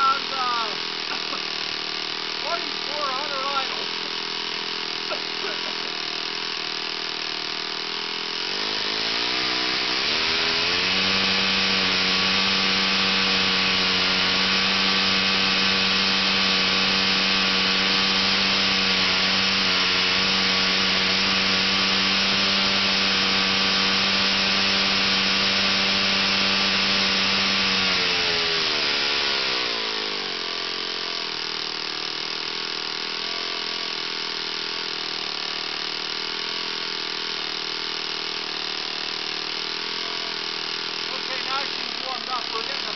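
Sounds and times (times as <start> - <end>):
model airplane engine running: 0.0 - 42.9.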